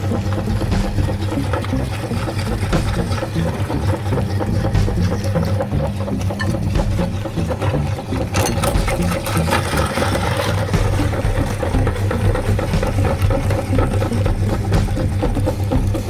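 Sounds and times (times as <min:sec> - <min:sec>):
electric meat grinder motor: 0:00.0 - 0:16.0.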